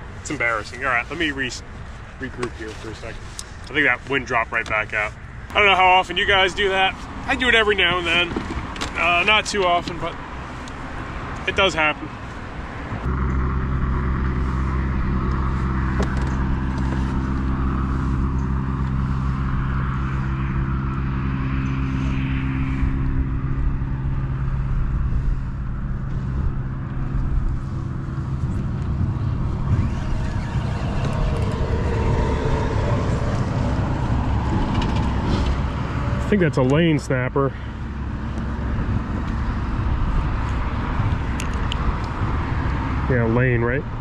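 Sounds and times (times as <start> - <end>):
road traffic drone: 0.0 - 44.0.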